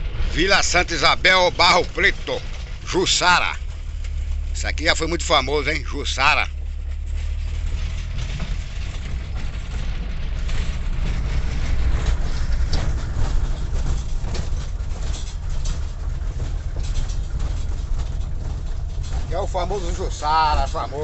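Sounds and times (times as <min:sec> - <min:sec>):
moving vehicle rumble: 0:00.0 - 0:21.0
rattling and clattering knocks: 0:00.0 - 0:21.0.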